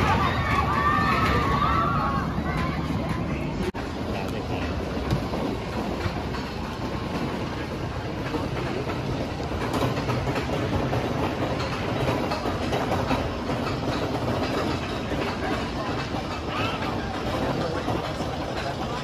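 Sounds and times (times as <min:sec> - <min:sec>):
roller coaster wheels rumbling on rails: 0:00.0 - 0:19.0.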